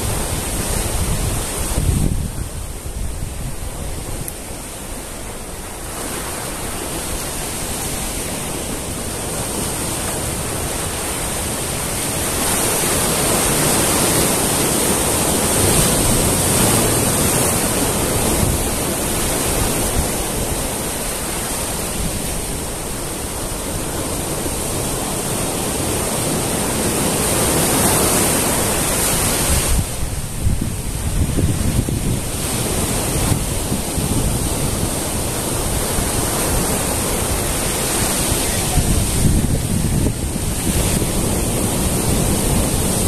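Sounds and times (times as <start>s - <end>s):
sea waves breaking over rocks: 0.0s - 43.0s.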